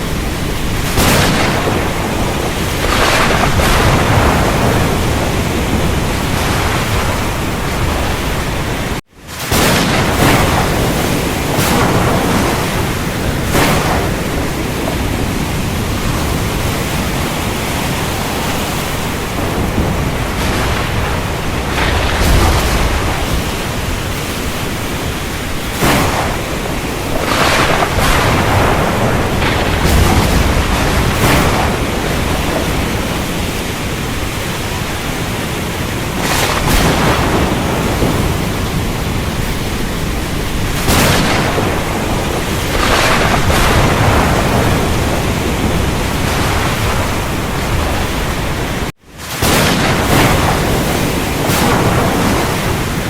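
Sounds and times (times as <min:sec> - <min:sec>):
heavy rain: 0:00.0 - 0:53.0
low thunder rumbling: 0:00.0 - 0:53.0.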